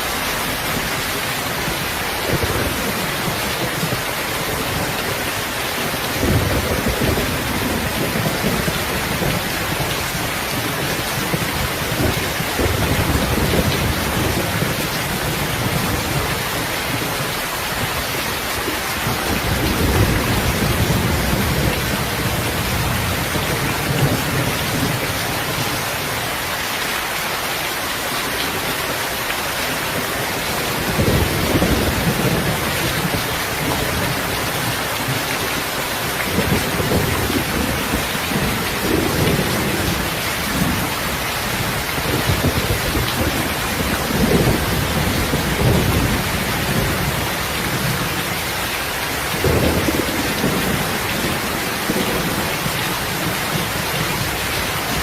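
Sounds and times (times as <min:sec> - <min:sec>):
rain hissing: 0:00.0 - 0:55.0
thunder rumbling: 0:00.2 - 0:26.2, 0:29.7 - 0:55.0.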